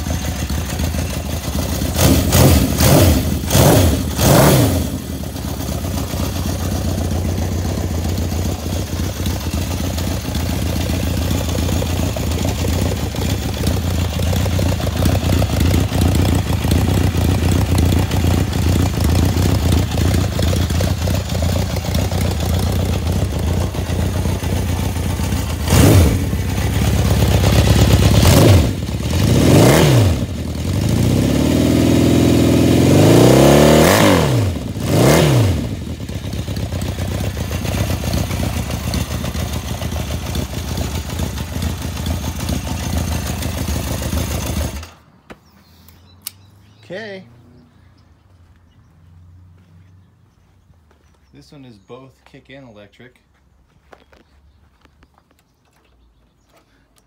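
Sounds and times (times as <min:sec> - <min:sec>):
motorcycle engine idling and revving: 0:00.0 - 0:51.3.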